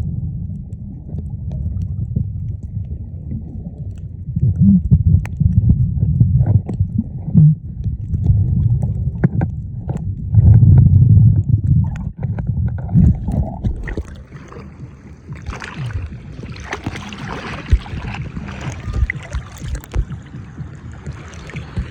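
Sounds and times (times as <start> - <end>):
muffled underwater rumble: 0.0 - 21.9
underwater knocks and clicks: 0.0 - 21.9.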